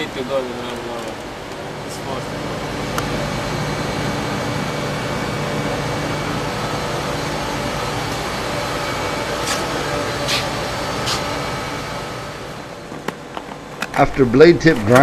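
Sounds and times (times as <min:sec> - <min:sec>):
grinding machine running: 0:00.0 - 0:15.0.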